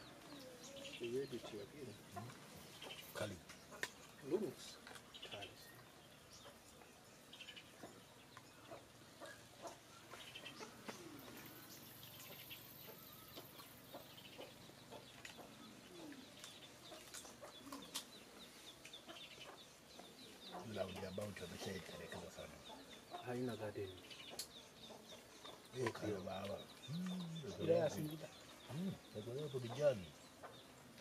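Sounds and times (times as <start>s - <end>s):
chickens clucking: 0.0s - 6.9s, 7.5s - 31.0s.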